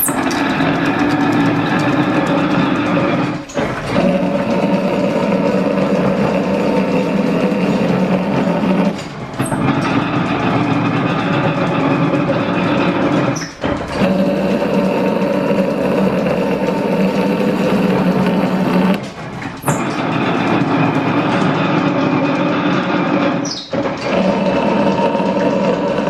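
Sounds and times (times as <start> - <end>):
machinery droning: 0.0 - 26.0.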